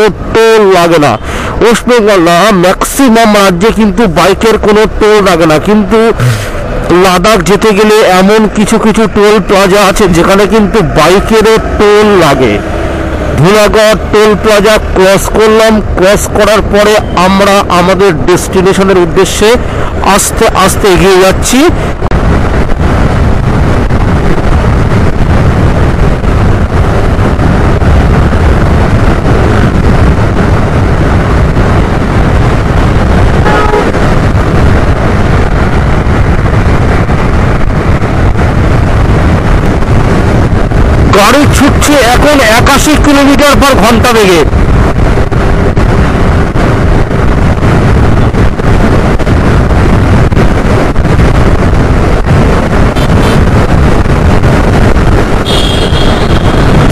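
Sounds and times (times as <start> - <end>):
road noise: 0.0 - 56.9
wind rumble on microphone: 0.0 - 56.9.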